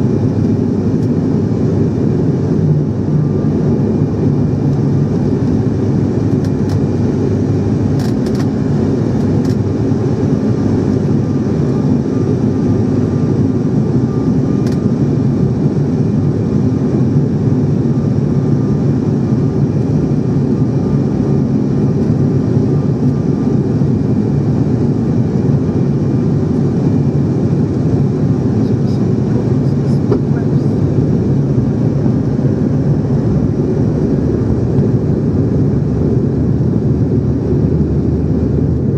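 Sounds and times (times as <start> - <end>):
airliner cabin drone: 0.0 - 38.9
faint steady whine: 0.0 - 38.9.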